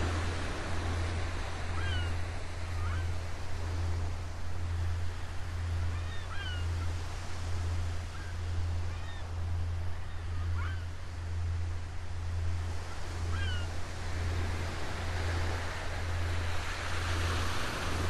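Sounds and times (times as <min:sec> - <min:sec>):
constant low hum: 0:00.0 - 0:18.0
surf washing: 0:00.0 - 0:18.0.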